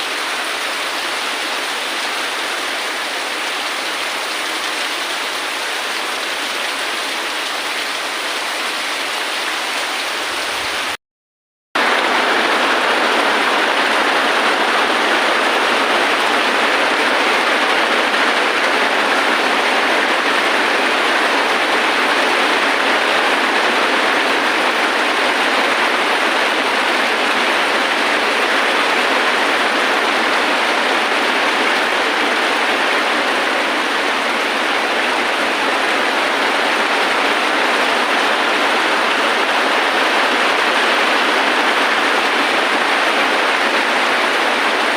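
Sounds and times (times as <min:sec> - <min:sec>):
rain hissing: 0:00.0 - 0:11.0, 0:11.8 - 0:44.9.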